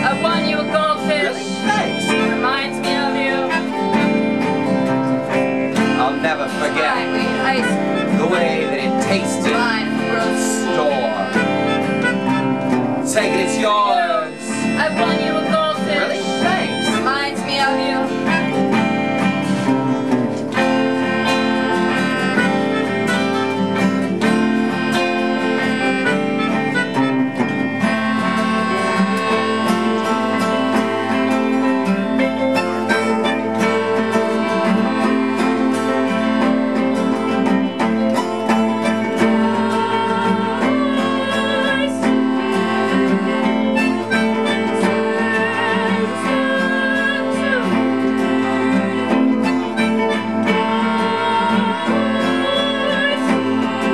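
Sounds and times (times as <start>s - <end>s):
live band playing instrumental: 0.0s - 53.9s
strummed acoustic guitar: 0.0s - 53.9s.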